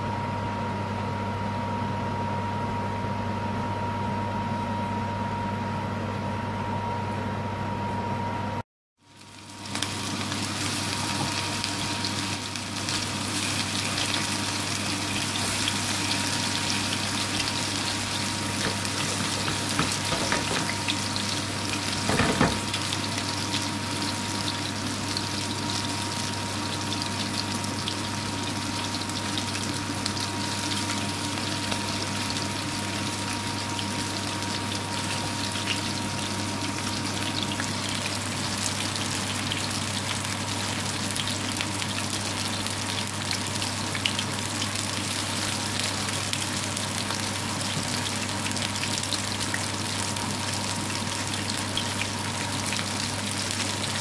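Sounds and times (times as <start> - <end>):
patties sizzling in oil: 9.0 - 54.0.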